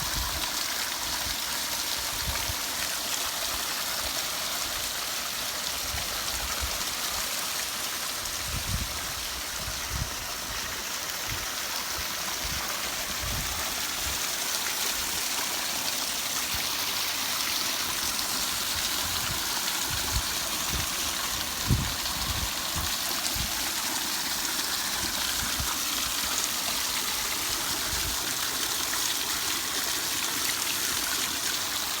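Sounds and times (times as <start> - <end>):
waterfall splashing over rocks: 0.0 - 32.0.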